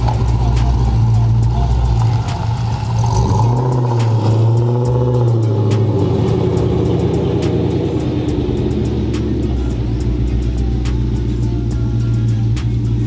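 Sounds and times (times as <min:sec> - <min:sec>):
car engine exhaust drone: 0:00.0 - 0:13.0.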